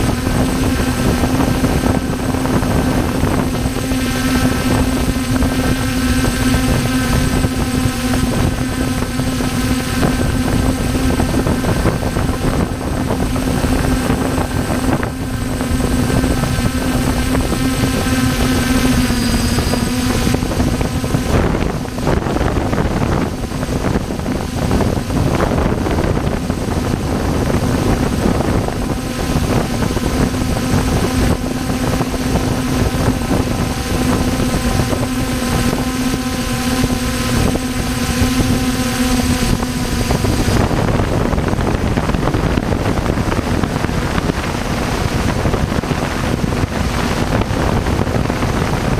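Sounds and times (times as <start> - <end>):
gusty buffeting: 0.0 - 48.9
helicopter running: 0.0 - 48.9.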